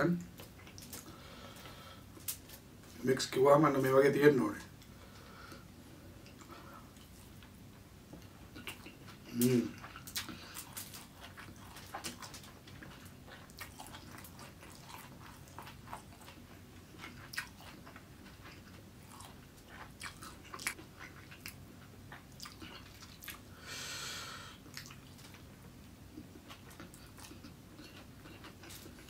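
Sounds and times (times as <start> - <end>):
person chewing: 0.2 - 3.0, 4.8 - 29.0.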